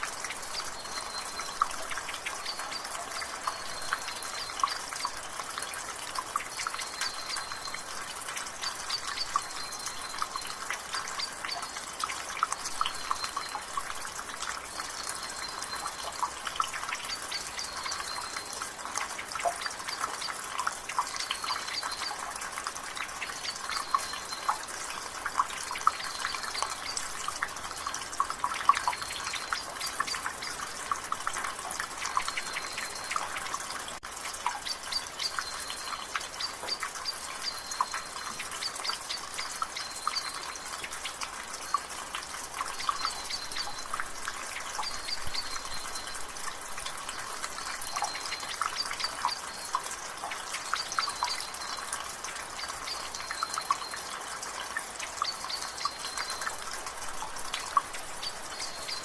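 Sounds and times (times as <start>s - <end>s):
water dripping from a gutter: 0.0s - 59.0s.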